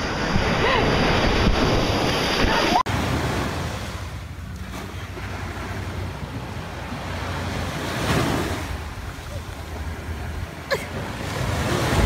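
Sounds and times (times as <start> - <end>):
surf washing: 0.0 - 12.0.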